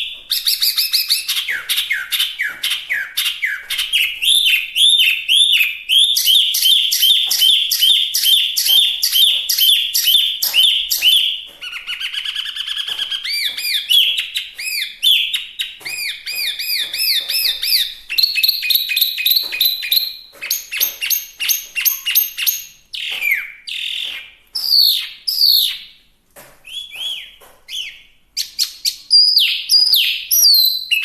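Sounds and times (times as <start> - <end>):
bird singing varied phrases: 0.0 - 26.0, 26.7 - 31.0.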